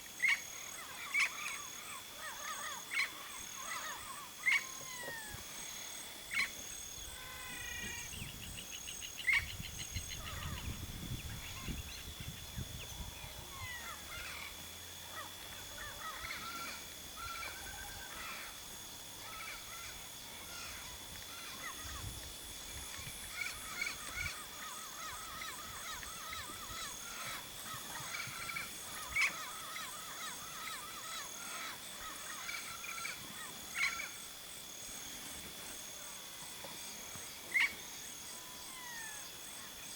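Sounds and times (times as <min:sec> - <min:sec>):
chorus of bird calls: 0:00.2 - 0:34.2, 0:36.0 - 0:39.9.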